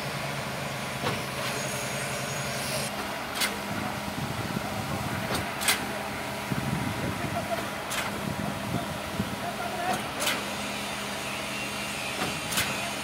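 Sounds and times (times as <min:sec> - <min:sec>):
concrete pump and trucks running: 0:00.0 - 0:13.0.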